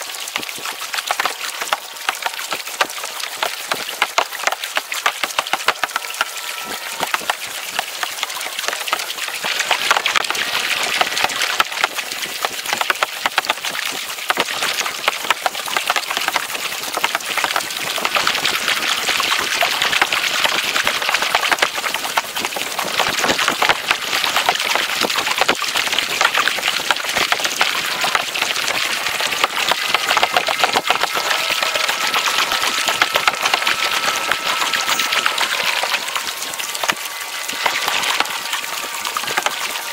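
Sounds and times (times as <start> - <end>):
water splashing against kayak: 0.0 - 39.9.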